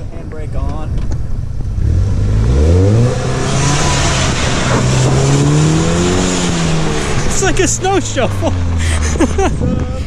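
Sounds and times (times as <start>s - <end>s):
car engine revving: 1.3s - 9.4s.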